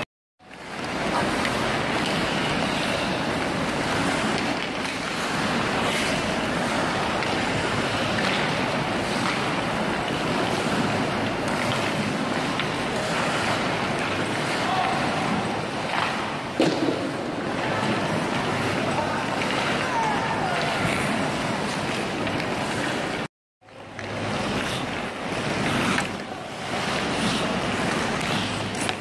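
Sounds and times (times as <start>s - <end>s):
hum of crowded hall: 0.0s - 29.0s
skate blades scraping ice: 0.5s - 23.3s, 23.9s - 29.0s
sticks clicking on pucks: 0.5s - 29.0s.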